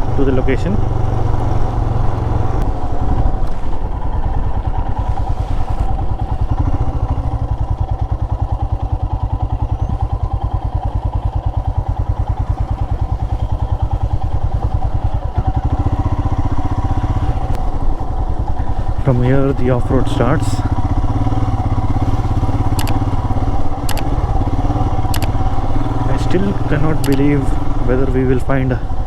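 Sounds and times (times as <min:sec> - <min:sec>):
motorcycle engine cruising: 0:00.0 - 0:29.0.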